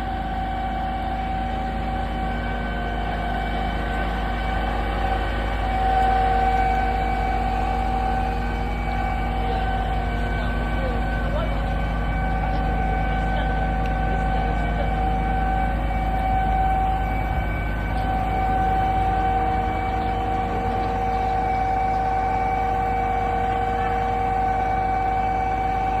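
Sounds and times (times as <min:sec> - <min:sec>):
concrete pump truck droning: 0:00.0 - 0:26.0.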